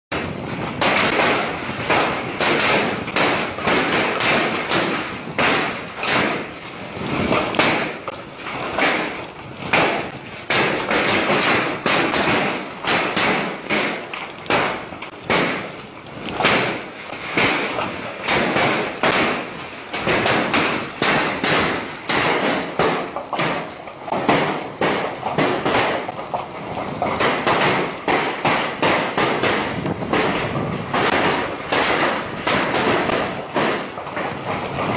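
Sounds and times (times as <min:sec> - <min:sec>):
heavy hail clattering: 0:00.2 - 0:34.9.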